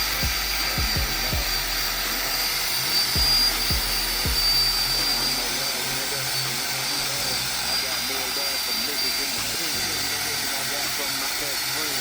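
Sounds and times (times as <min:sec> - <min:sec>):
power drill sanding with whine: 0:00.0 - 0:12.0
rap music with deep bass: 0:00.0 - 0:12.0.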